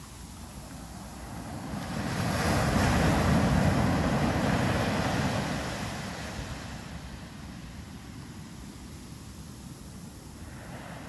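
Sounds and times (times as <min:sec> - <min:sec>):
wave washing up sand: 0:00.0 - 0:11.0.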